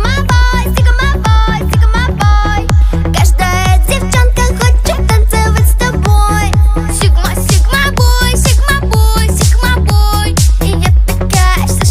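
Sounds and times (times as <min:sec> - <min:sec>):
pop dance music: 0:00.0 - 0:11.9.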